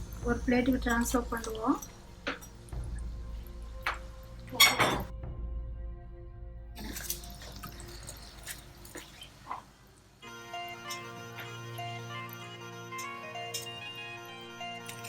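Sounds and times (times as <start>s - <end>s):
soft background music: 0.0s - 9.5s, 10.2s - 15.0s.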